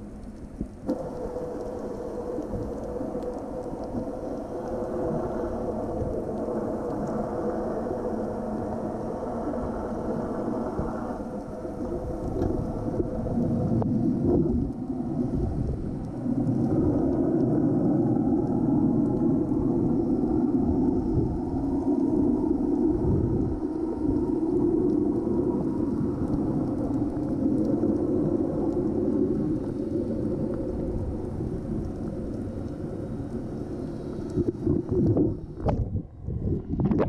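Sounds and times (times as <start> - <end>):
muffled underwater rumble: 0.0 - 37.0.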